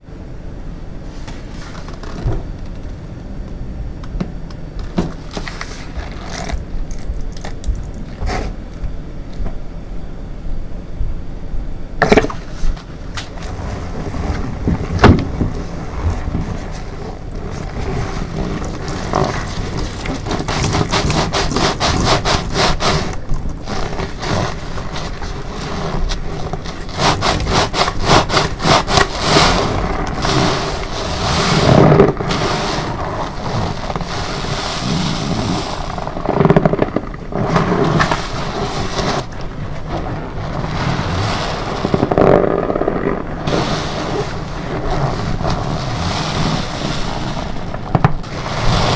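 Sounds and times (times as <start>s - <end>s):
gloves rubbing: 1.1s - 3.2s, 4.6s - 9.6s, 12.0s - 48.9s
fast crackling bubbles: 1.5s - 9.8s, 12.0s - 48.9s
wet sponge squelching foam: 4.9s - 9.4s, 12.0s - 48.9s.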